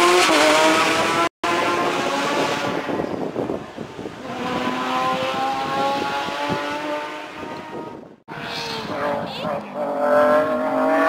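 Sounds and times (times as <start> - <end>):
rally car engine accelerating: 0.0 - 3.0, 4.1 - 11.0
another rally car engine: 0.0 - 11.0.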